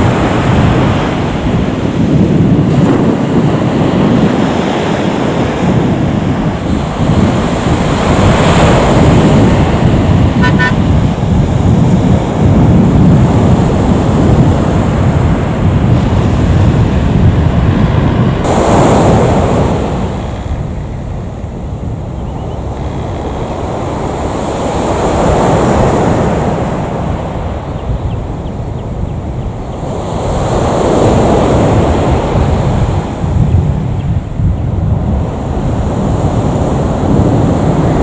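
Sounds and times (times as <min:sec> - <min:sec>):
jet engine rumble: 0:00.0 - 0:38.0.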